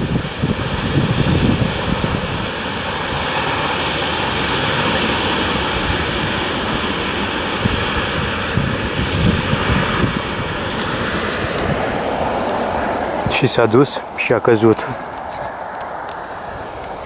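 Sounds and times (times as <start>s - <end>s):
train wheels rumbling on rails: 0.0s - 17.0s
wind hitting microphone: 0.0s - 17.0s.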